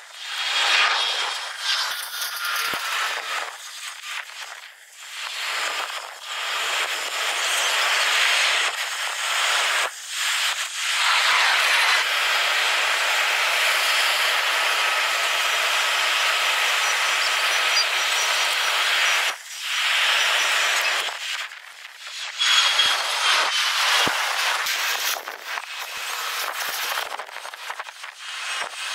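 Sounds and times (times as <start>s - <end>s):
sped-up jet engine hiss: 0.1s - 28.9s.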